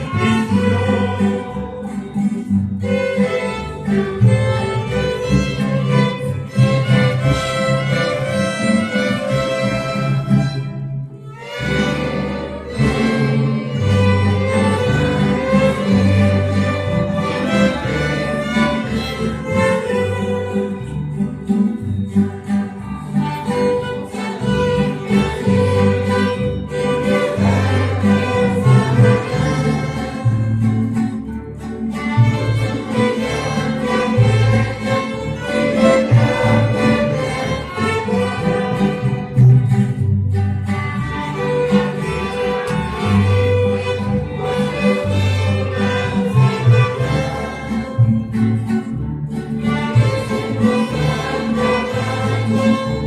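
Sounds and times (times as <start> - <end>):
bass guitar line: 0.0 - 53.0
strummed guitars: 0.0 - 53.0
violins playing melody: 0.0 - 53.0.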